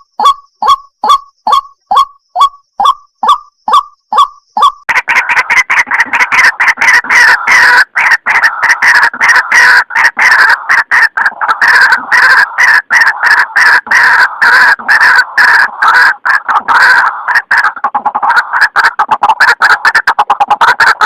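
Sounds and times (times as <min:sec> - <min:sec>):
waterhen calling rapidly: 0:00.0 - 0:21.0.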